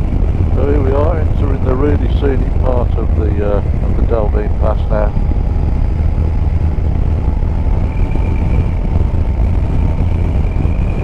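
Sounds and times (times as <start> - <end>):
motorcycle engine running: 0.0 - 11.0
rumble of riding wind: 0.0 - 11.0
thin steady whine: 0.0 - 11.0.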